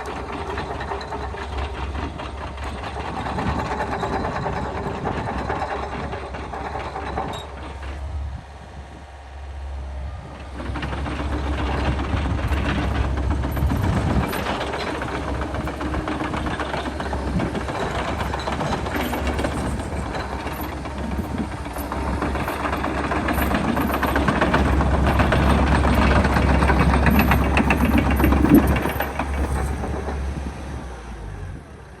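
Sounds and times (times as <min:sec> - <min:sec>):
rattling clatter: 0:00.0 - 0:08.1, 0:10.3 - 0:30.8
excavator diesel engine drone: 0:00.0 - 0:32.0.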